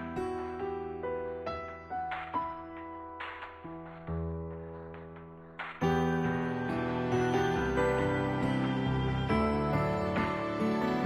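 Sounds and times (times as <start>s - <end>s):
slow gentle background music: 0.0s - 11.0s.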